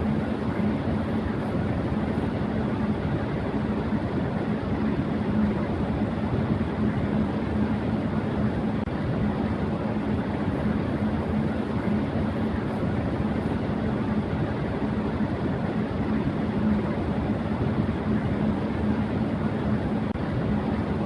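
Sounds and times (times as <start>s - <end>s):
electric fan running: 0.0s - 21.0s.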